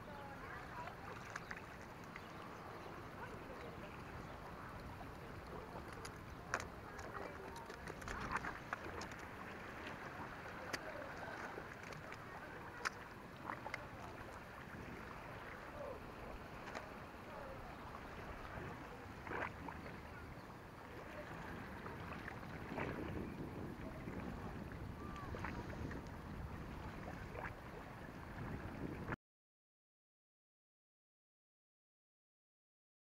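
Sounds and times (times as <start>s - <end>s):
water lapping against rocks: 0.0s - 29.2s.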